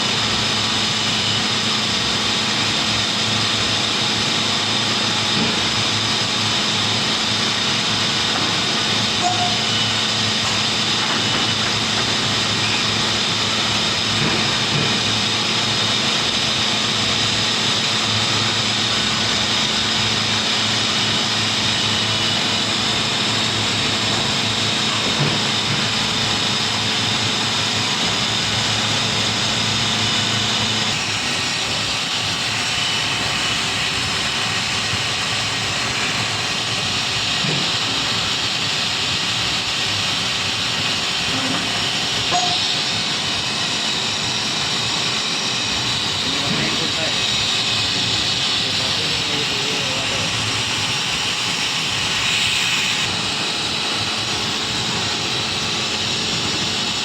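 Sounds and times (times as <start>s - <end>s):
machinery hiss: 0.1s - 57.0s.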